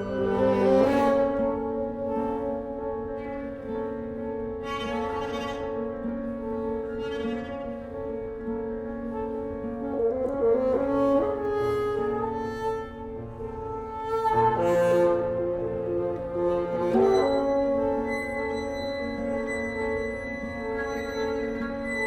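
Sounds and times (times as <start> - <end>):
bassoon: 0.0 - 22.0
clarinet: 0.0 - 22.0
flute: 0.0 - 22.0
harp: 0.0 - 22.0
piano: 0.0 - 22.0
string trio: 0.0 - 22.0.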